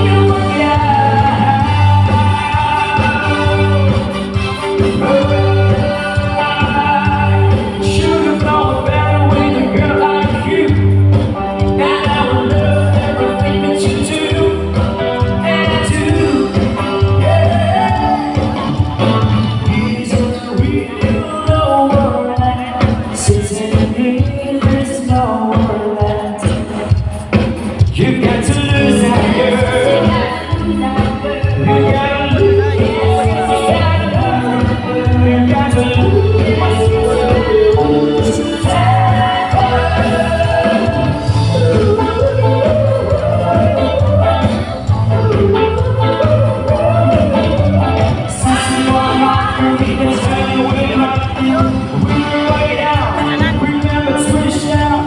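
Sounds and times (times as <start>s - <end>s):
repeating bass line: 0.0s - 27.0s, 27.6s - 55.0s
band playing: 0.0s - 55.0s
person singing: 0.0s - 55.0s.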